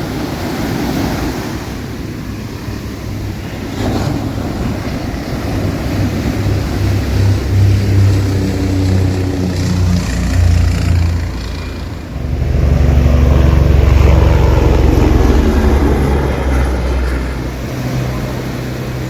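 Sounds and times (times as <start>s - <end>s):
jet engines passing overhead: 0.0s - 19.0s.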